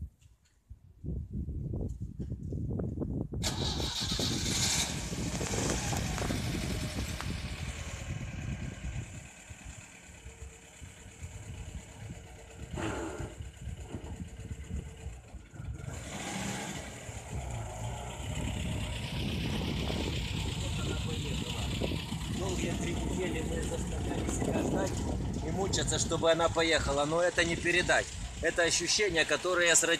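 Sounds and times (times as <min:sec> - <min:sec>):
car engine running: 0:04.5 - 0:29.9.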